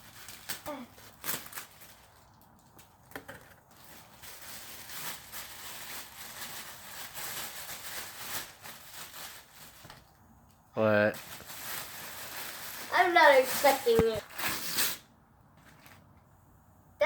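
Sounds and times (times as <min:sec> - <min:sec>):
wrapping paper crinkling: 0:00.0 - 0:10.2, 0:11.1 - 0:15.0.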